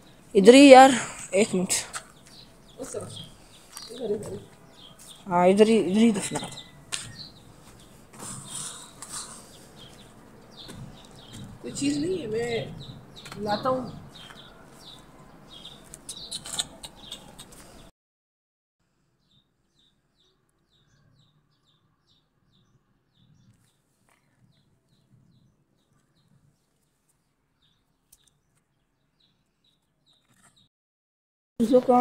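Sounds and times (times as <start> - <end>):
small birds chirping: 0.0 - 17.9, 19.2 - 30.7.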